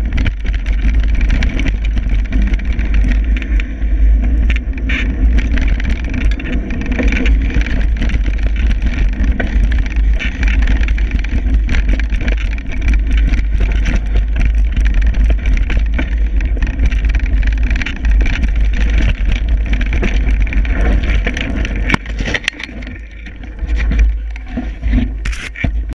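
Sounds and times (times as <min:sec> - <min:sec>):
bike chattering clicks and knocks: 0:00.0 - 0:25.9
bike tyres rattling on gravel: 0:00.0 - 0:26.0
wind rumble on microphone: 0:00.0 - 0:26.0.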